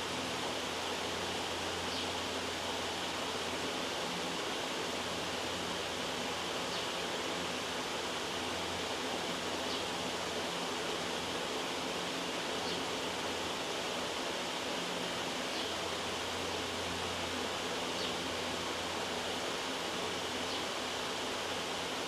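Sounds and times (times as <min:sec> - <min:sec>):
steady white noise hiss: 0:00.0 - 0:22.0.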